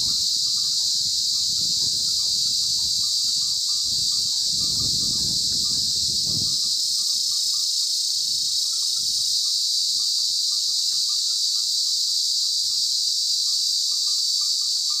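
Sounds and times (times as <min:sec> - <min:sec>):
cicada buzzing: 0:00.0 - 0:15.0.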